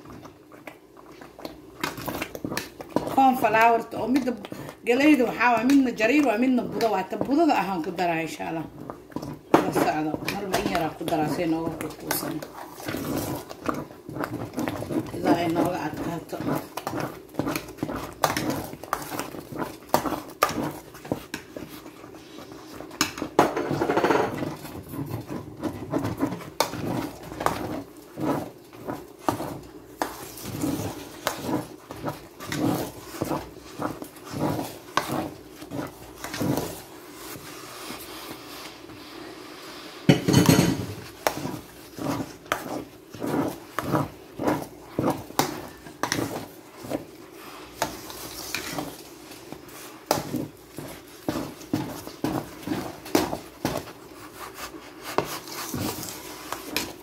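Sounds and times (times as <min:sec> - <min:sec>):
spoon scraping metal pot: 0:01.8 - 0:38.4, 0:40.1 - 0:54.3.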